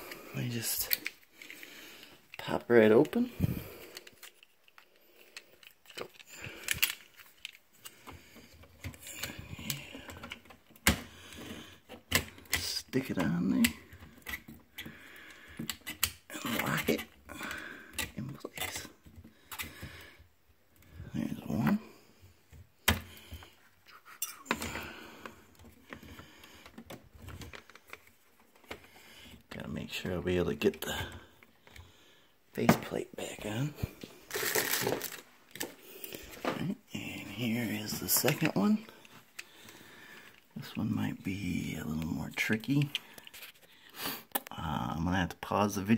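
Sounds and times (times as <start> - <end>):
plastic clicks and rustling: 0.1 - 21.0, 24.4 - 31.9, 33.8 - 40.8, 42.0 - 44.5.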